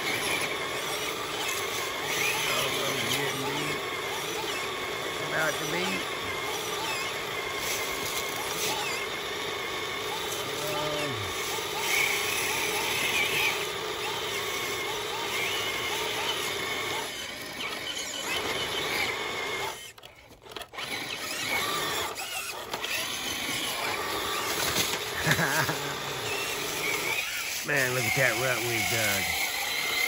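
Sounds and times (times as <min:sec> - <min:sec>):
rc car motor whining: 0:00.0 - 0:30.0.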